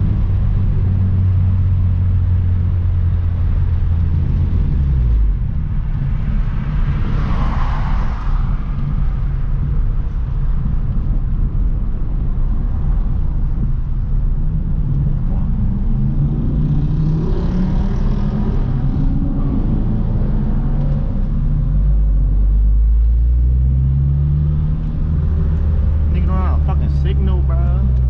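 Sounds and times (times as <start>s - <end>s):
car engine and exhaust: 0.0s - 28.0s.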